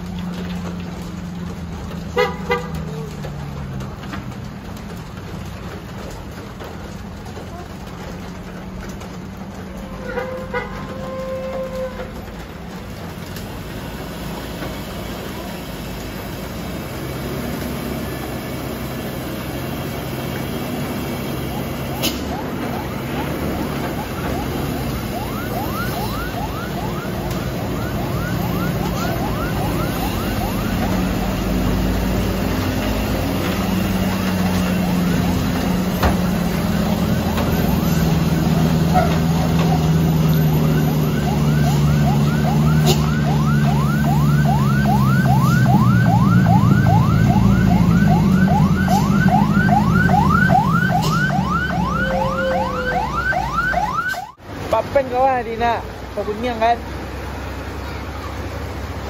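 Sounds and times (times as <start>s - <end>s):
truck diesel engine labouring: 0.0s - 59.0s.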